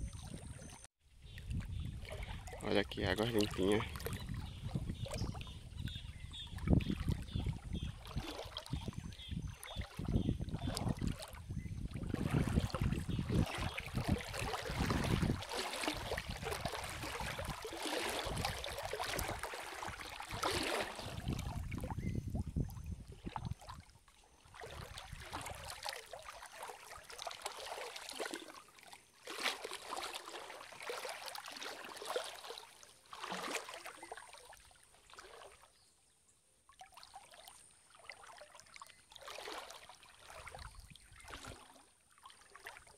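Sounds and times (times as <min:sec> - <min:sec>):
water splashing and trickling: 0:00.0 - 0:35.9, 0:36.6 - 0:42.9.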